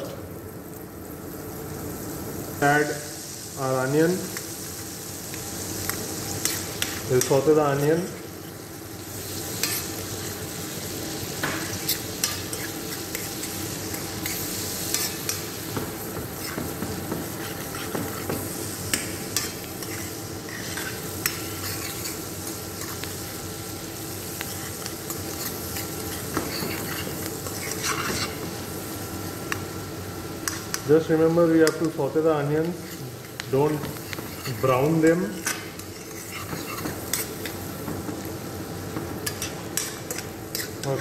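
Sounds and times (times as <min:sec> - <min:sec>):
onions sizzling in butter: 0:00.0 - 0:41.0.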